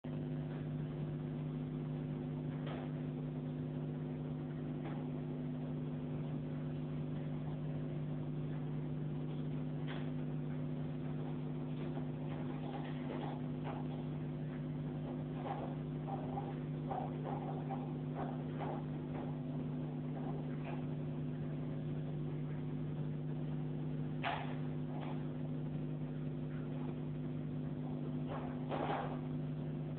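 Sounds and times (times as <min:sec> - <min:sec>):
electrical hum: 0:00.0 - 0:29.9.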